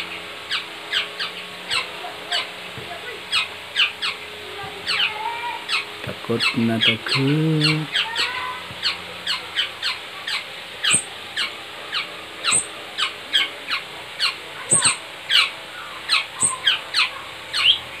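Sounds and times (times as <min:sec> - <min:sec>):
birds squeaky chirping: 0:00.0 - 0:18.0.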